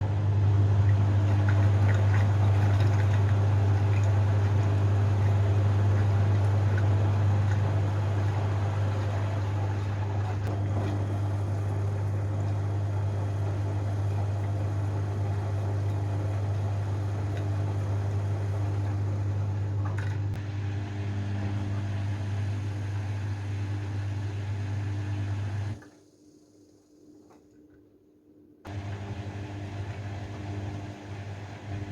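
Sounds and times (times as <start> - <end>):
washing machine humming: 0.0 - 27.8, 28.7 - 31.9.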